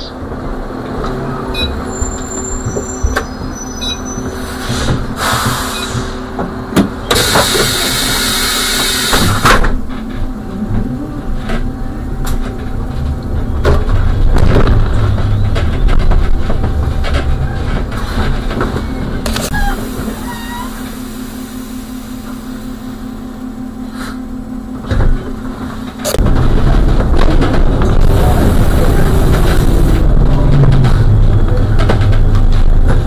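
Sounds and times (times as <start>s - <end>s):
bus rumbling: 0.0s - 33.0s.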